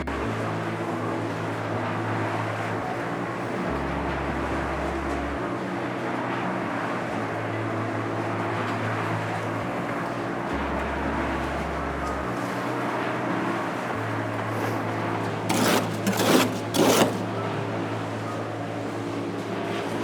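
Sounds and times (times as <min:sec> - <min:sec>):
machine engine humming: 0:00.0 - 0:20.0.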